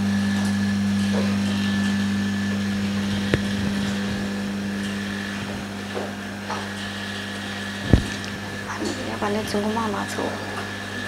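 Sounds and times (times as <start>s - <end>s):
laminating machine humming: 0.0s - 11.0s.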